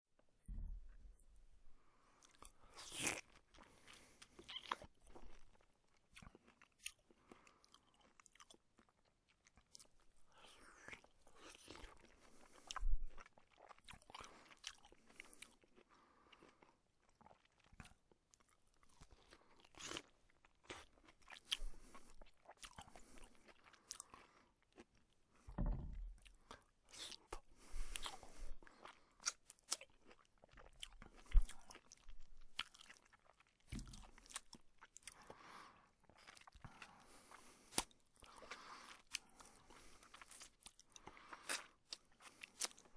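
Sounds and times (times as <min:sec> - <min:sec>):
person chewing juicy fruit: 0:02.1 - 0:42.9.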